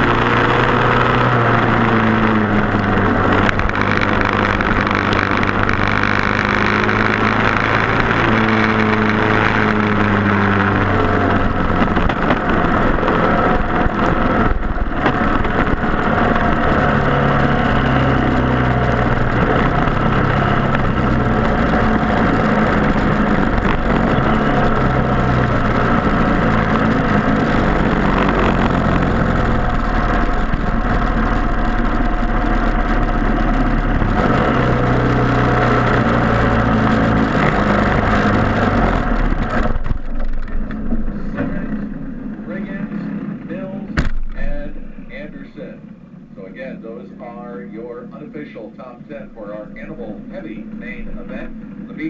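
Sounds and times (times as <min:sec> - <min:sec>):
kart engines racing: 0:00.0 - 0:52.0.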